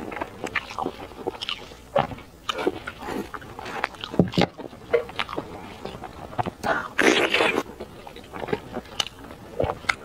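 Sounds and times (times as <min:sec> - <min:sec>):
close-miked chewing and lip-smacking: 0:00.0 - 0:10.0.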